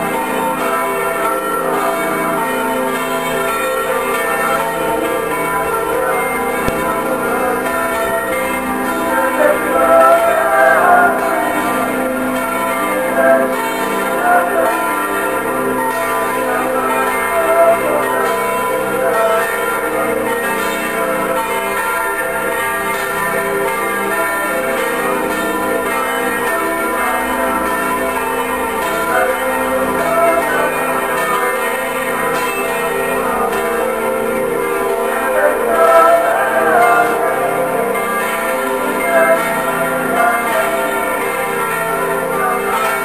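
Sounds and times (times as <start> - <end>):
church bells ringing: 0.0 - 43.0.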